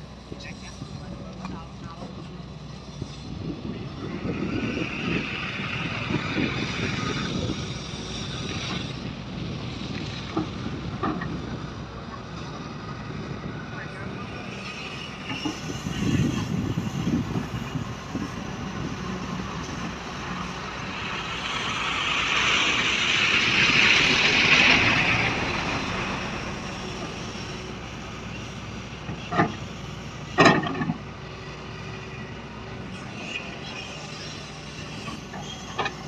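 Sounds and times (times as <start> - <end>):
excavator diesel engine: 0.0 - 36.0.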